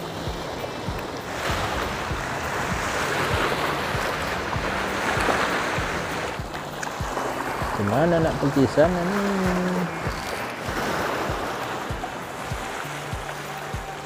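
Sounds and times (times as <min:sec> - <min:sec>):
waves washing against rocks: 0:00.0 - 0:14.0
wind buffeting microphone: 0:00.0 - 0:14.0.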